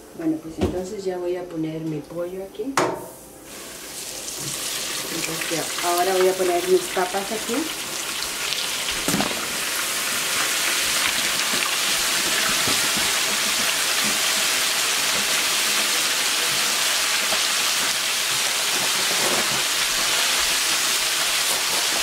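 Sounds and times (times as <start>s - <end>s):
chicken frying in hot oil: 3.5s - 22.0s.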